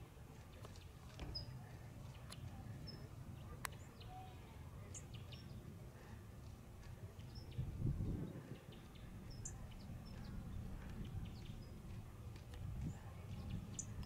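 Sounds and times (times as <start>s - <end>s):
faint low rumble: 0.2s - 14.0s.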